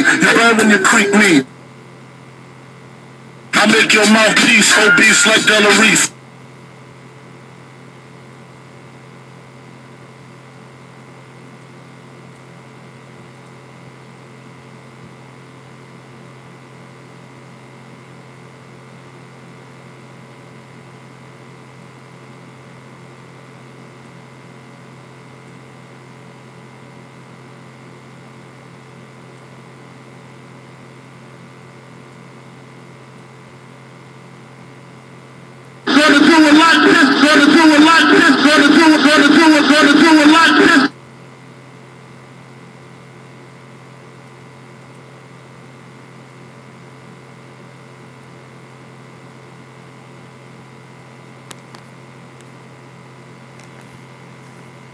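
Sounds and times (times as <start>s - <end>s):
electrical hum with high tones: 0.0s - 54.9s.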